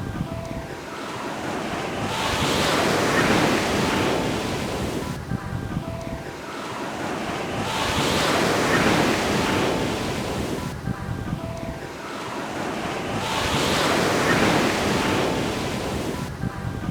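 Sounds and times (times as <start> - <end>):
ocean waves breaking on beach: 0.0 - 16.9.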